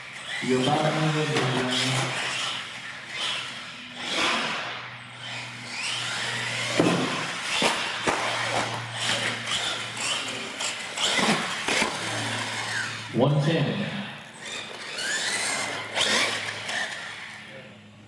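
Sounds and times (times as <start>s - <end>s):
toy truck electric motor whining: 0.0s - 13.2s, 14.2s - 17.6s.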